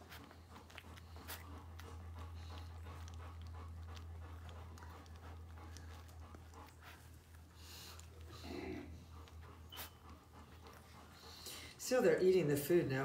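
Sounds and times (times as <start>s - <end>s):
puppy panting: 0.0s - 13.0s
steady low hum: 0.0s - 13.0s.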